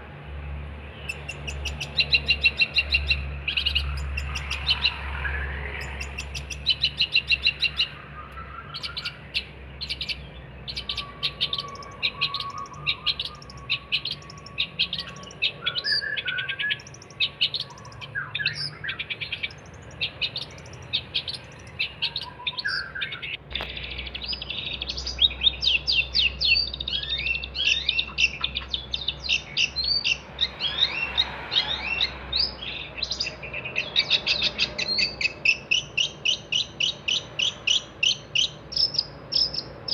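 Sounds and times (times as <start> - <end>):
bird singing high chirps: 1.0 - 39.9.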